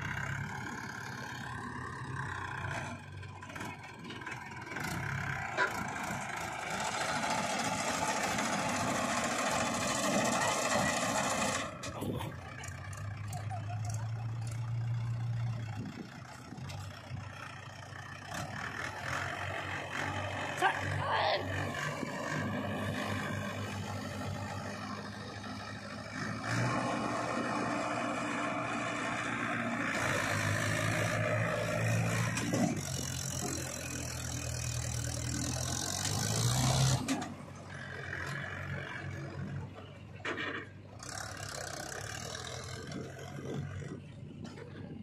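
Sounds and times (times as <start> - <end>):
tractor diesel engine: 0.0 - 45.0.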